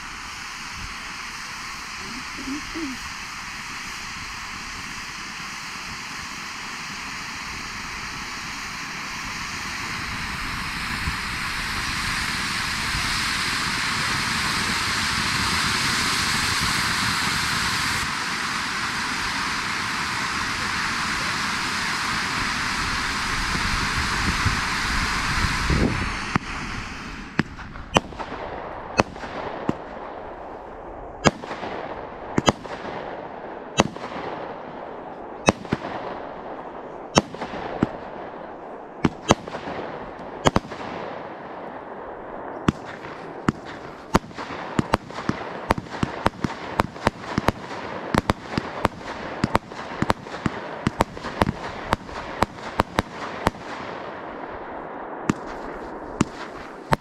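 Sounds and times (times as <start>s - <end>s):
fireworks bangs with hiss: 0.0s - 57.0s.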